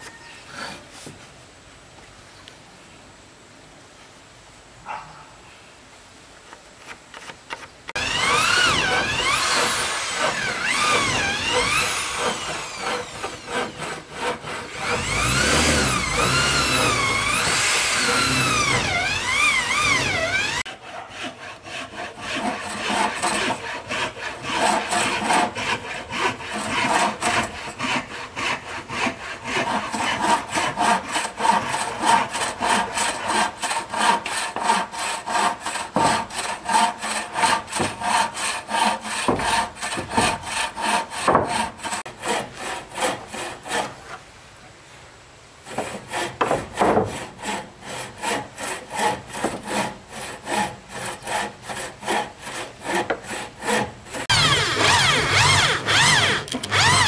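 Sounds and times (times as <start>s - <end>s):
handsaw cutting wood: 7.1s - 44.2s, 45.7s - 57.0s.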